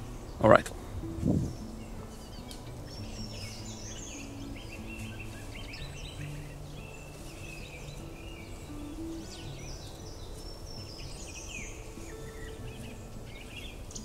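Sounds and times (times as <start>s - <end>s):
small birds chirping: 0.0s - 14.0s
soft background music: 0.0s - 14.0s.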